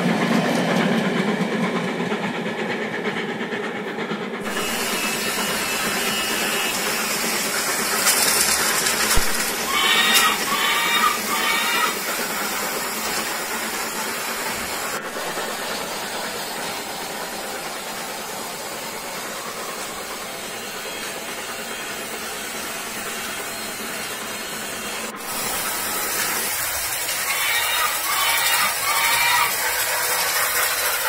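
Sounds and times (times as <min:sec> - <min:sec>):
toy trains whirring on track: 0:00.0 - 0:31.0.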